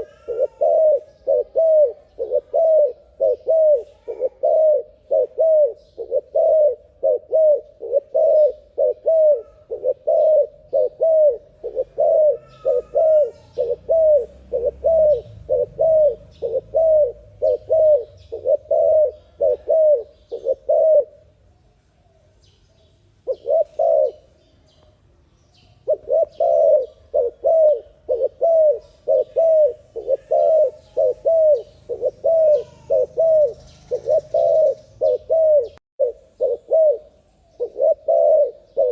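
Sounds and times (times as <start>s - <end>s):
dove cooing: 0.0s - 21.3s, 23.2s - 24.4s, 25.8s - 38.9s.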